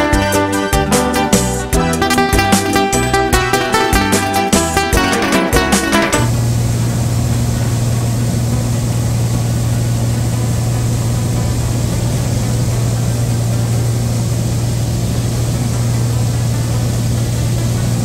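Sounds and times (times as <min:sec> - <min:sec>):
light airplane engine and propeller: 0:00.0 - 0:18.0.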